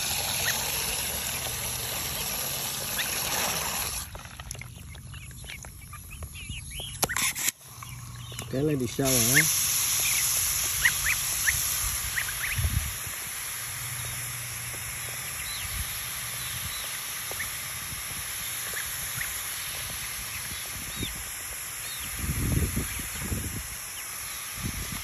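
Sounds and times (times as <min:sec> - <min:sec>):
hose nozzle mist hissing: 0:00.0 - 0:04.1, 0:07.2 - 0:25.0
young birds peeping: 0:00.0 - 0:25.0.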